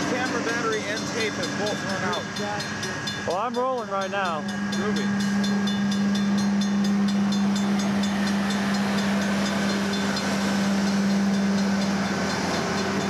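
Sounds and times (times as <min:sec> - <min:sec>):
crossing warning bell ringing: 0:00.0 - 0:13.0
machine engine drone: 0:00.0 - 0:13.0.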